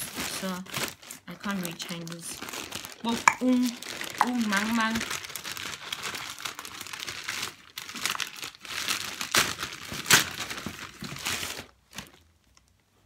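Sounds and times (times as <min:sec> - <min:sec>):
plastic bag crinkling and tearing: 0:00.0 - 0:12.9.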